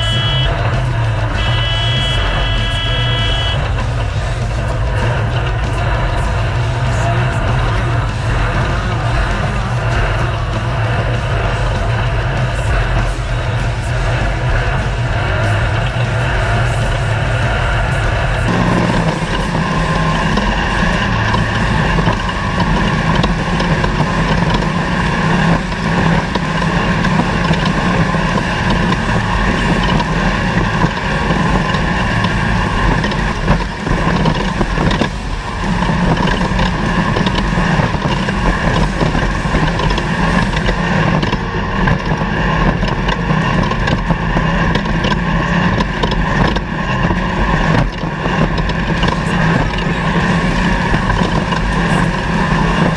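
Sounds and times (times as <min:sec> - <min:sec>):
race vehicle engine running: 0:00.0 - 0:52.9
steady rush of noise: 0:00.0 - 0:52.9.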